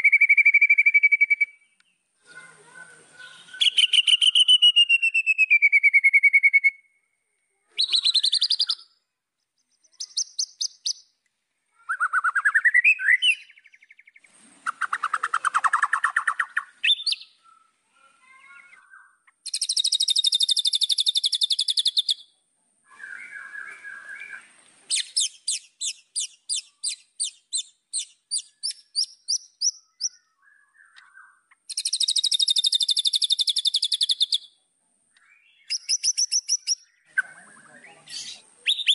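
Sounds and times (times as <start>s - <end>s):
bird singing varied song: 0.0s - 2.5s, 3.2s - 38.9s.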